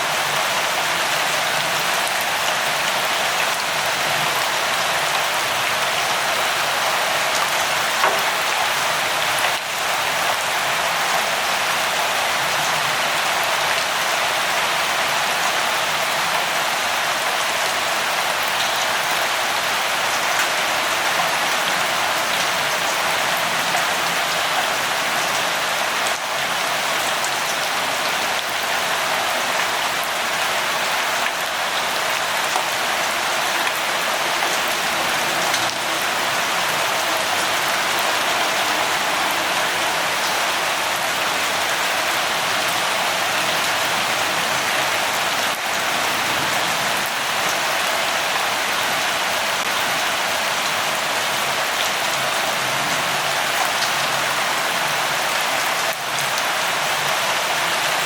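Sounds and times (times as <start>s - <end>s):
rain hissing on surface: 0.0s - 58.0s.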